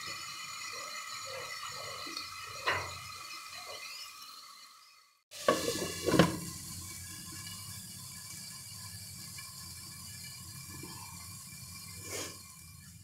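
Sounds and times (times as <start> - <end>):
vegetables sizzling under lid: 0.0 - 13.0.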